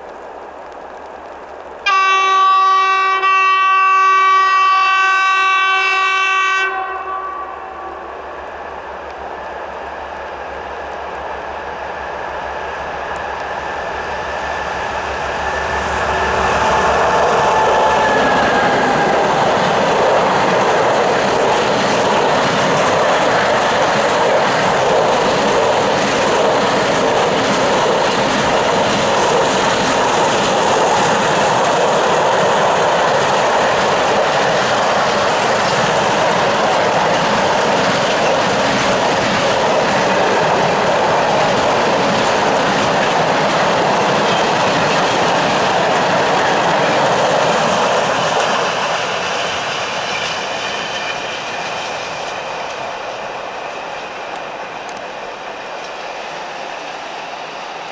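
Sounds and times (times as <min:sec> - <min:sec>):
freight train rolling past: 0:00.0 - 0:57.9
train wheels clicking: 0:08.3 - 0:57.9.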